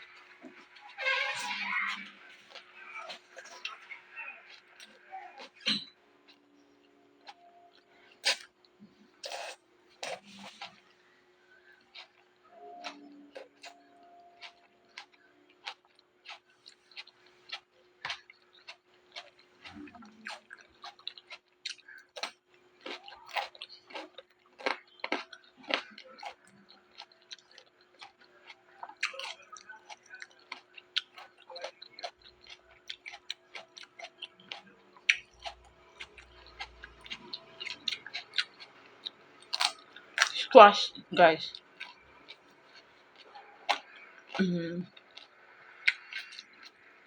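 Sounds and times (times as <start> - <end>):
chewing crunchy raw vegetables: 1.7 - 11.0, 11.6 - 40.4, 41.5 - 47.0.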